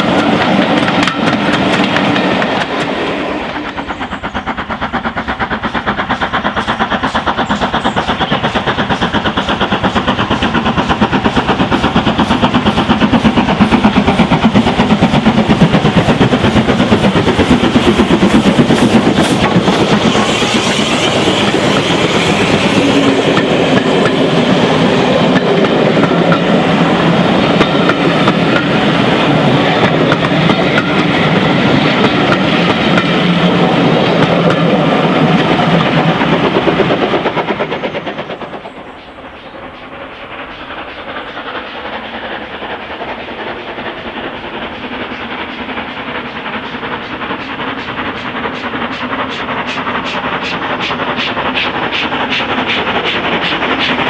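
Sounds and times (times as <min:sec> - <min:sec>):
steam locomotive exhaust beating: 0:00.0 - 0:54.0
train wheels clickety-clack: 0:00.0 - 0:54.0.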